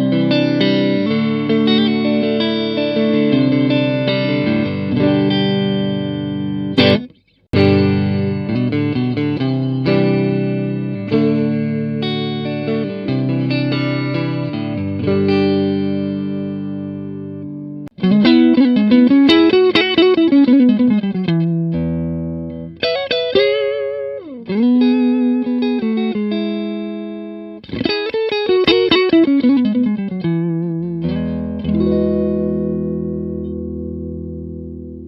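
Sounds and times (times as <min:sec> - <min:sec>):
clean electric guitar: 0:00.0 - 0:35.0.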